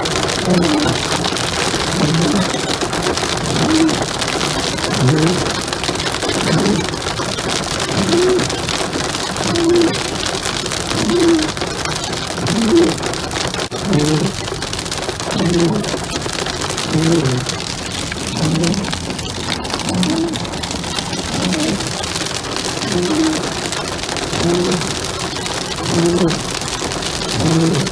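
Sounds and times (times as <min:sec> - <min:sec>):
hail pelting car: 0:00.0 - 0:27.9
windshield wipers sweeping: 0:00.0 - 0:27.9.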